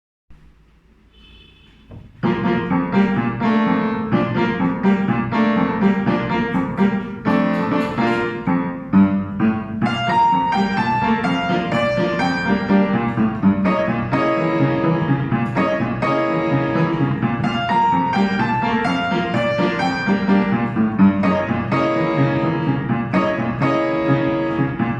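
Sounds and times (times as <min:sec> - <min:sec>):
piano playing: 0:01.8 - 0:24.9.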